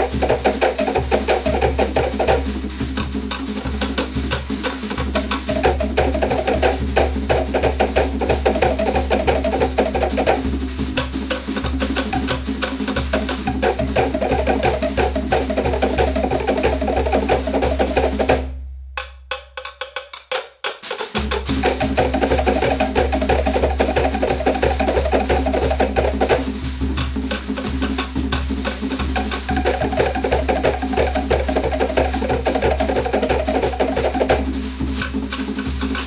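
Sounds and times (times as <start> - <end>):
wooden slit-drum strokes: 0.0 - 18.4, 19.0 - 36.0
deep bass drum: 0.0 - 18.5, 21.2 - 36.0.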